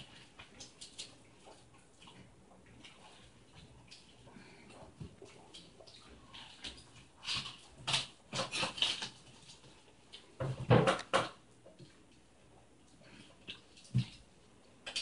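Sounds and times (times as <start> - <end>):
eating and food-handling noises: 0.0 - 15.0.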